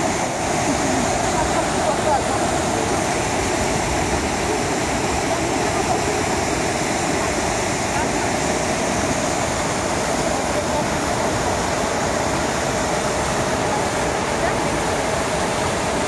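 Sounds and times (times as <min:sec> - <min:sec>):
river rushing over boulders: 0:00.0 - 0:16.0.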